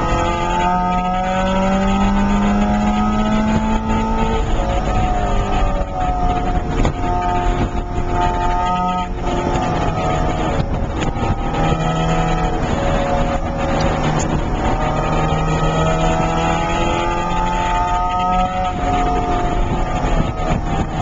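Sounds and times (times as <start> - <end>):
car engine under hard driving: 0.0 - 21.0
road and wind noise: 0.0 - 21.0.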